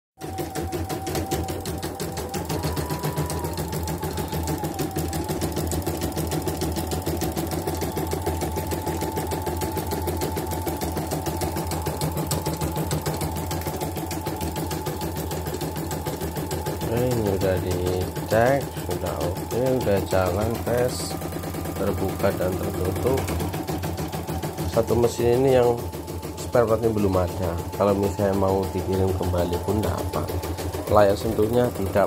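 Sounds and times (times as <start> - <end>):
embroidery machine needle rattle: 0.2 - 32.0
motor whine: 0.2 - 32.0.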